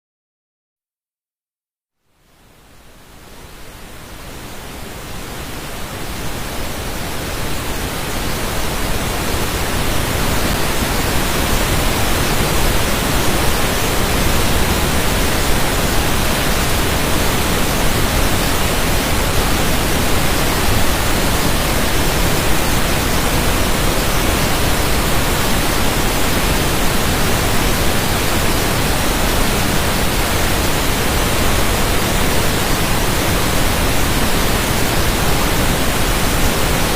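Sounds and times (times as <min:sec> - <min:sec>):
water rushing: 0:03.7 - 0:36.9.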